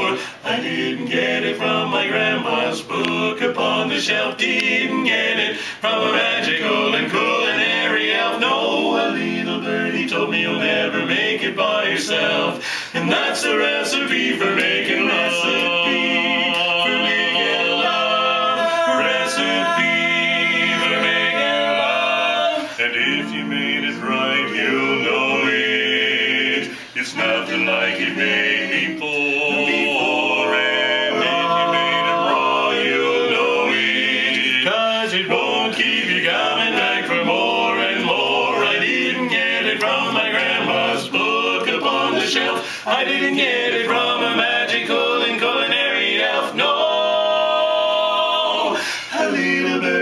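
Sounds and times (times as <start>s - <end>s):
male barbershop quartet singing: 0.0s - 50.0s.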